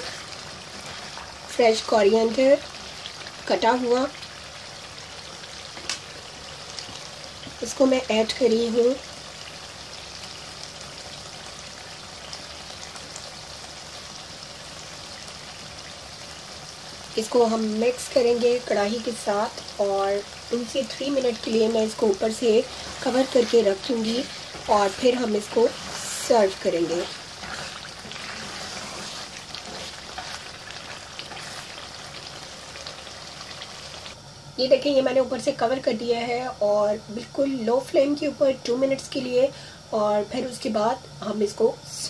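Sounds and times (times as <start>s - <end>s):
gravy sizzling in a pan: 0.0s - 41.8s.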